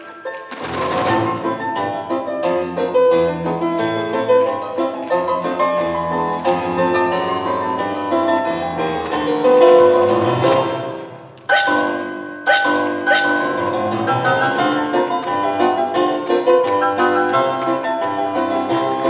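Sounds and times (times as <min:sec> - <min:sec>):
piano-led instrumental music: 0:00.0 - 0:19.0.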